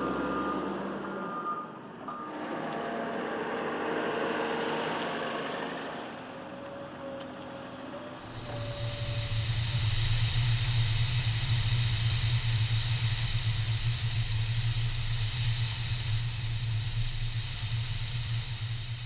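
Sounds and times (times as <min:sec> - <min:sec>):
engine droning with faint whine: 0:00.0 - 0:19.0.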